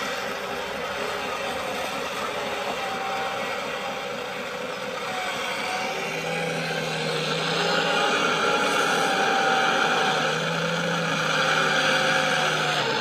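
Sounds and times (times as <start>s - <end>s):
model excavator mechanical whirr: 0.0s - 13.0s.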